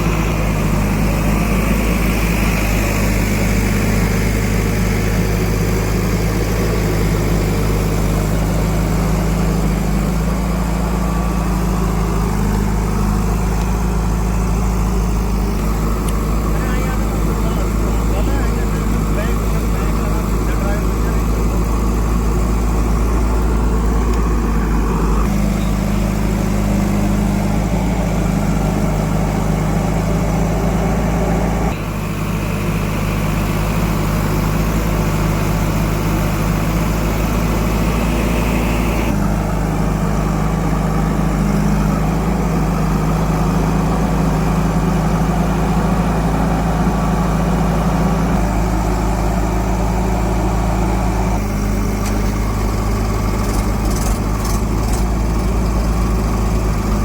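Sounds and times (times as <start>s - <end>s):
heavy diesel engines rumbling: 0.0s - 57.0s.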